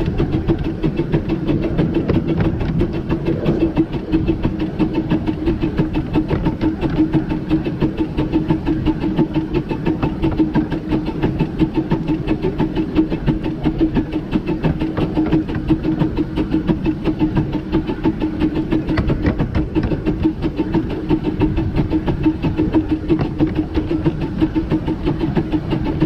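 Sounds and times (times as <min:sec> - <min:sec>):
steady hum: 0:00.0 - 0:26.0
steam locomotive running: 0:00.0 - 0:26.0
wheel and rail noise: 0:00.0 - 0:26.0.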